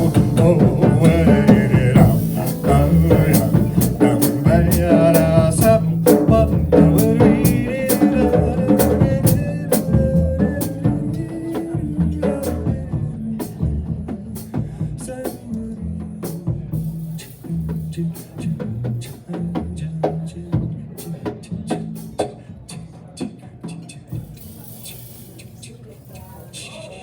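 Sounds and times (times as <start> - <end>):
live jazz band playing: 0.0 - 22.2
drum kit and cymbals: 0.0 - 27.0.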